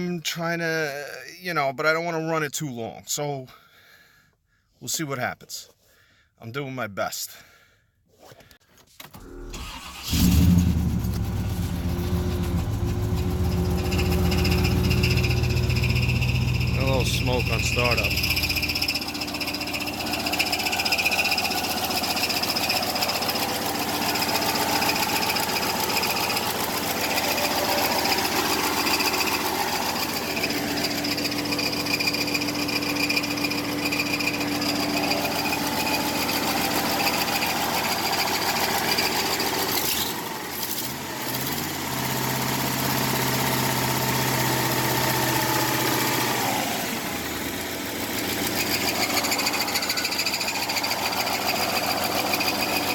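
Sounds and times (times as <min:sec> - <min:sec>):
truck engine running: 0:09.6 - 0:52.9.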